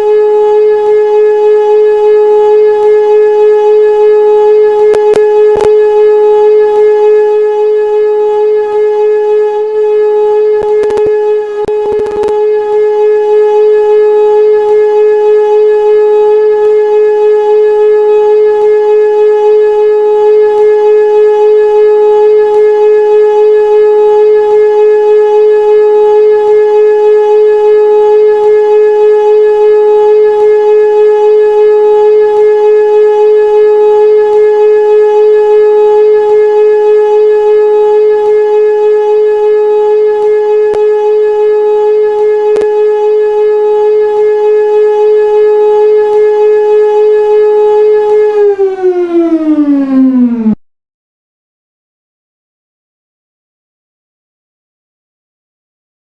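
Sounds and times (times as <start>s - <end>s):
siren steady tone: 0.0s - 50.6s.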